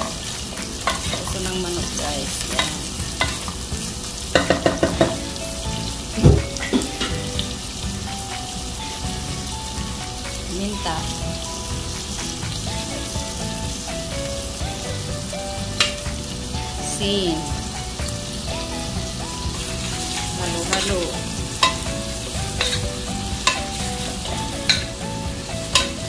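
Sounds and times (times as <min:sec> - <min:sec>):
faint background music: 0:00.0 - 0:26.0
meat sizzling in oil: 0:00.0 - 0:26.0.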